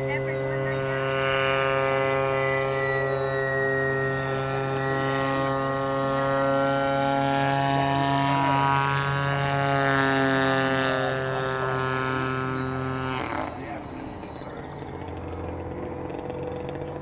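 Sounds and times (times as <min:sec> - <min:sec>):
model airplane motor buzzing: 0:00.0 - 0:17.0.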